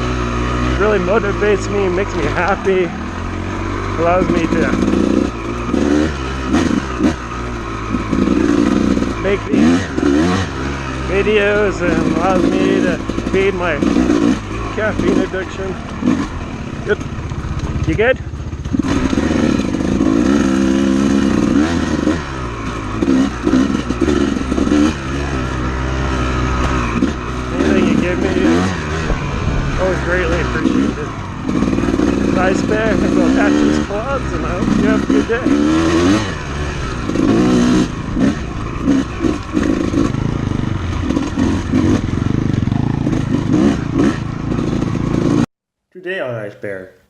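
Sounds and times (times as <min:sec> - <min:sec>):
dirt bike engine revving: 0:00.0 - 0:45.5.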